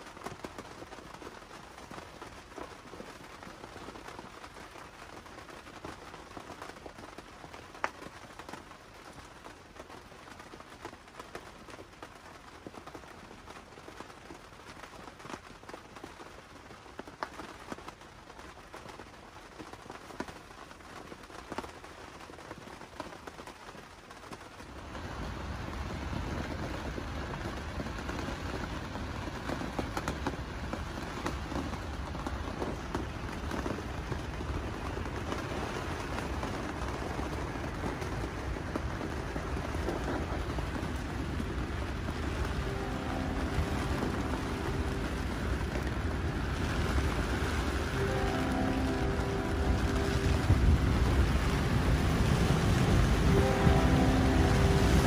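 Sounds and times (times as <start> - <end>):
raindrops ticking: 0.0 - 55.0
steady rain: 0.0 - 55.0.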